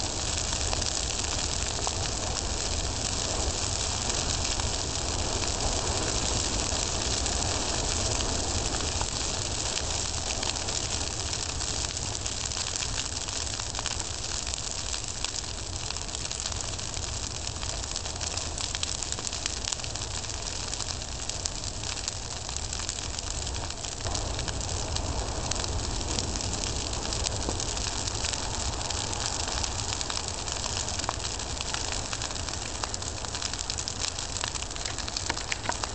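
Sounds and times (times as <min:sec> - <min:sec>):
fire crackling and popping: 0:00.0 - 0:35.9
fire hissing: 0:00.0 - 0:35.9.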